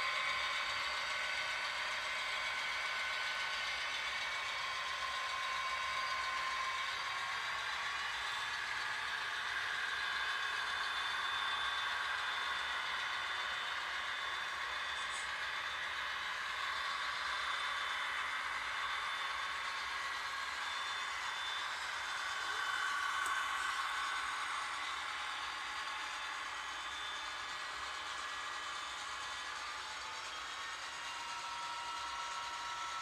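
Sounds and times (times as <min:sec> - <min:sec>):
faint whining tones: 0:00.0 - 0:33.0
train running: 0:00.0 - 0:33.0.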